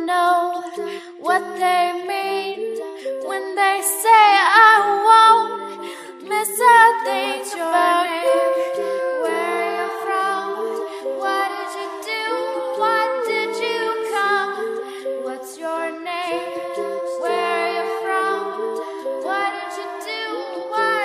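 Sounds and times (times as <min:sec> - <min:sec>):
a cappella female vocal harmonies: 0:00.0 - 0:21.0.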